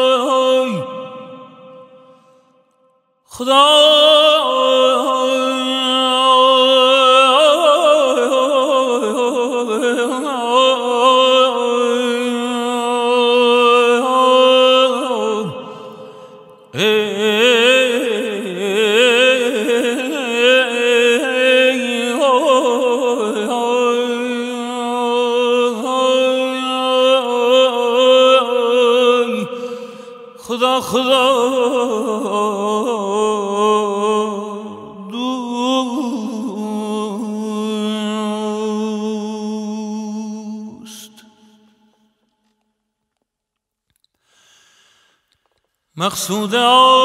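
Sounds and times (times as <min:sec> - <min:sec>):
man singing ornamented line: 0:00.0 - 0:41.9, 0:45.9 - 0:47.0.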